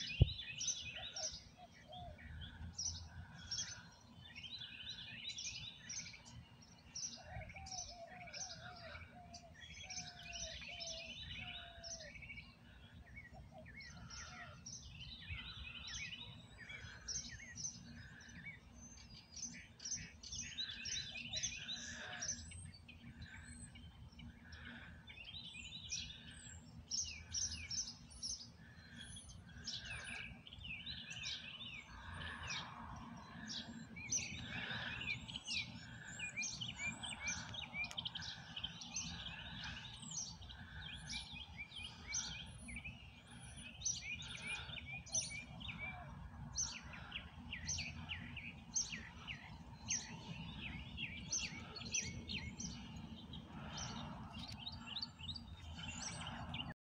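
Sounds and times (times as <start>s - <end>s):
low repeated bird call: 0.0s - 56.8s
songbirds chirping: 0.0s - 56.8s.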